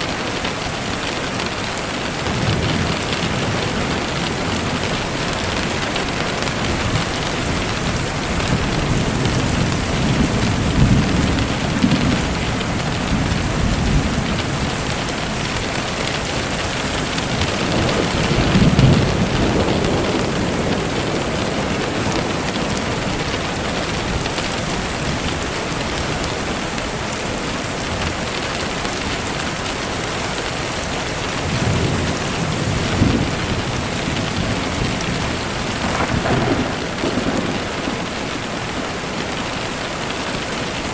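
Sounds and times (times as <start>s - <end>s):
steady rain falling: 0.0s - 40.9s
thunder rolling: 2.0s - 26.2s, 31.3s - 40.2s.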